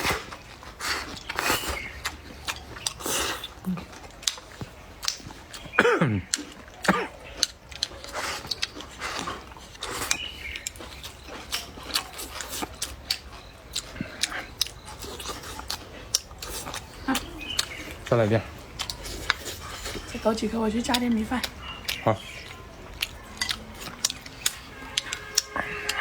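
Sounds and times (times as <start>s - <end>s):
chewing and crunching: 0.0s - 26.0s
wet mouth clicks: 1.2s - 18.0s, 18.8s - 20.0s, 20.9s - 26.0s.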